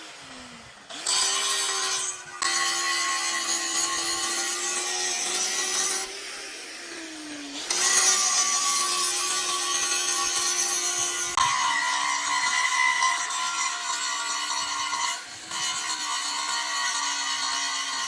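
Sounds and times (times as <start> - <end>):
power tool grinding metal: 0.0 - 18.0.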